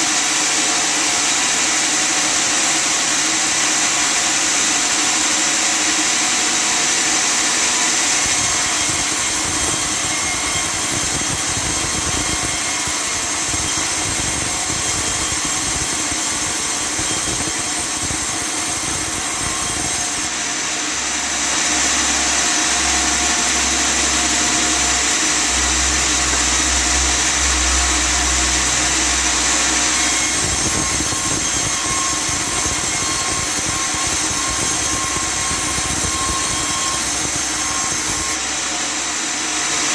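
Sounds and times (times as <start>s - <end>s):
sawmill cutting wood: 0.0s - 39.9s.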